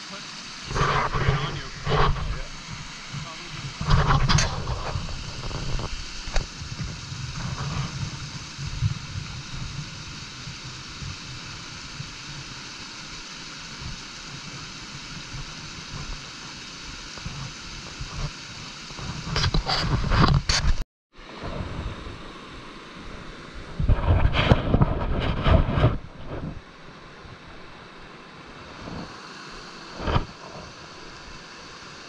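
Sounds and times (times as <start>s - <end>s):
brook water running: 0.0s - 20.4s, 26.0s - 32.0s.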